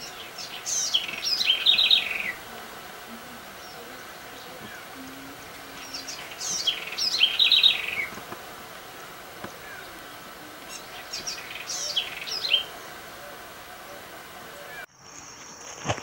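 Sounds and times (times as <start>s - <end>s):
songbird descending chirps: 0.0s - 14.9s.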